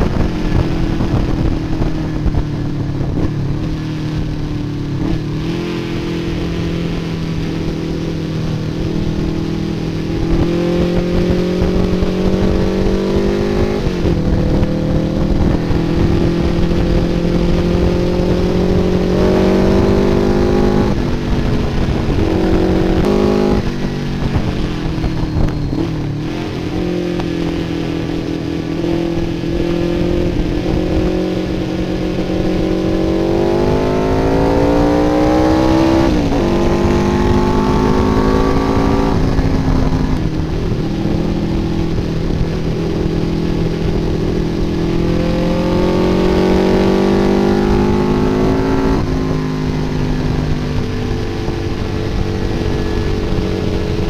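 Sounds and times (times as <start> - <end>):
motorcycle engine revving: 0.0 - 54.0
wind rush: 0.0 - 54.0.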